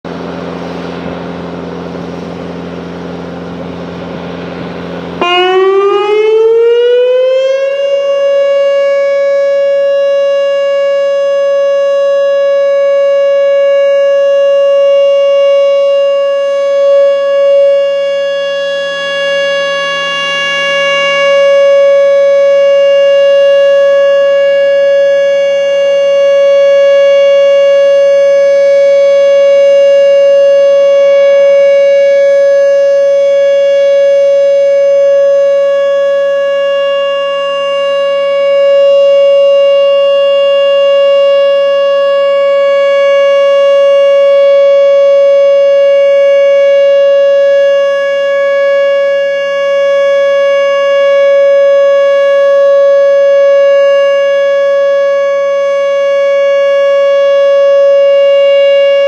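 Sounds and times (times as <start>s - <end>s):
electronic warning siren: 0.1s - 59.0s.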